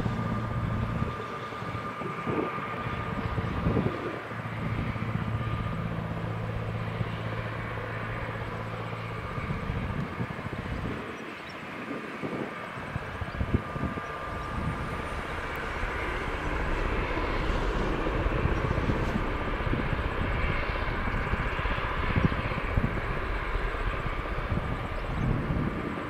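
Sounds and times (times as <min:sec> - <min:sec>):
jet engines rumbling with whine: 0:00.0 - 0:26.0.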